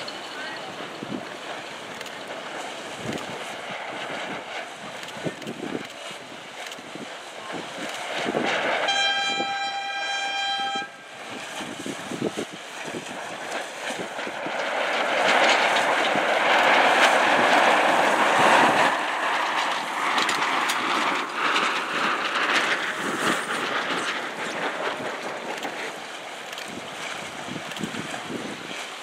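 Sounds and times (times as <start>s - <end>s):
water rushing: 0.0s - 29.0s
wind blowing over microphone: 0.0s - 29.0s.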